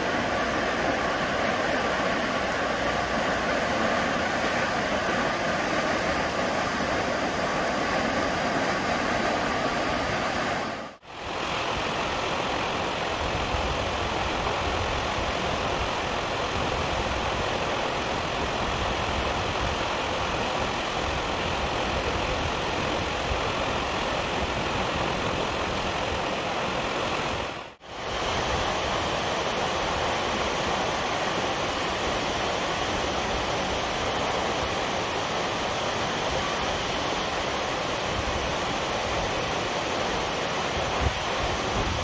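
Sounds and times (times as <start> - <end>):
water roaring over dam: 0.0 - 42.0.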